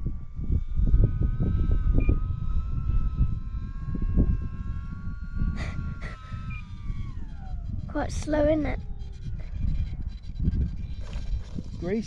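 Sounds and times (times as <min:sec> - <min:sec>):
electric motor and propeller whine: 0:00.0 - 0:12.0
wind buffeting microphone: 0:00.0 - 0:12.0.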